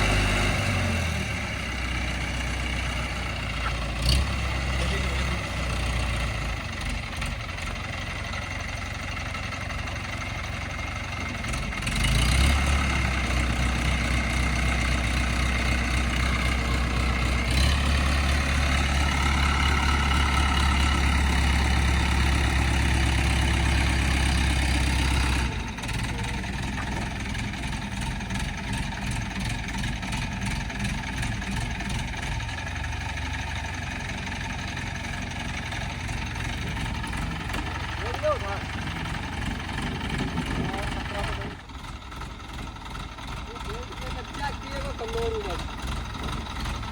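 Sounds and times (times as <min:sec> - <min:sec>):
heavy vehicle engine revving: 0:00.0 - 0:46.9.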